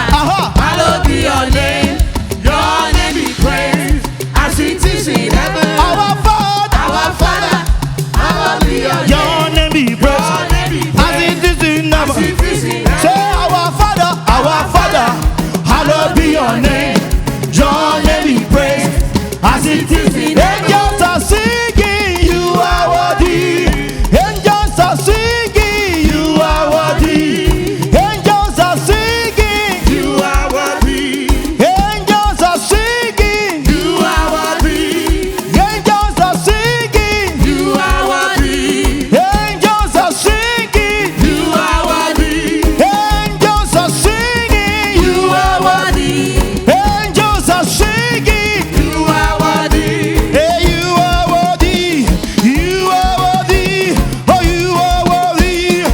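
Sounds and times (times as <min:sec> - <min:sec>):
gospel band playing: 0:00.0 - 0:55.9
person singing: 0:00.0 - 0:55.9.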